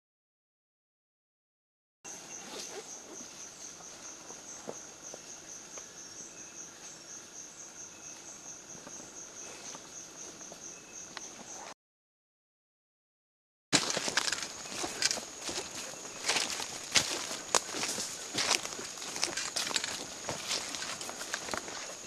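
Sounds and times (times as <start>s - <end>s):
insects chirring: 2.1s - 11.7s, 13.8s - 22.0s.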